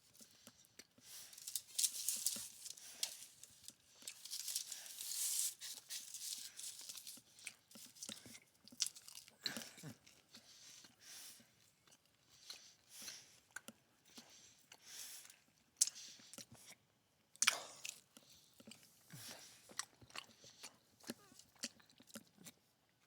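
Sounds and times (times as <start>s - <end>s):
person chewing bread: 0.0s - 23.0s.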